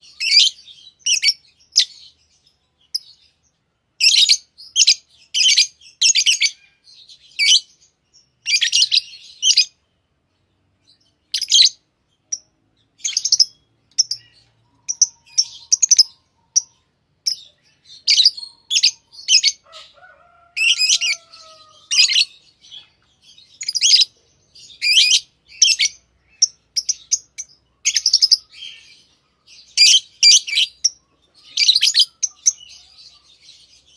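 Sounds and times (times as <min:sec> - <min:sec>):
lovebirds chirping: 0:00.0 - 0:33.9.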